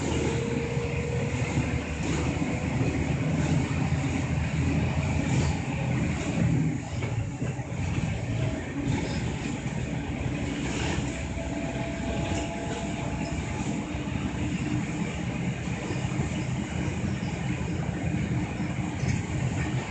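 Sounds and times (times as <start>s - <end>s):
bus engine running: 0.0s - 19.9s
road and tyre noise: 0.0s - 19.9s.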